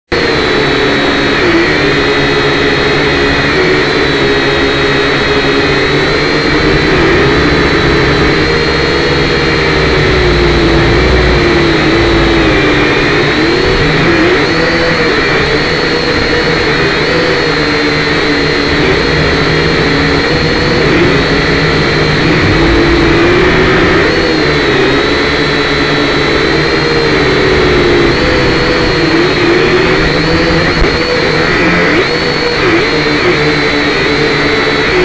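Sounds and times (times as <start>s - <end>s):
quadcopter motors whining: 0.1s - 35.0s.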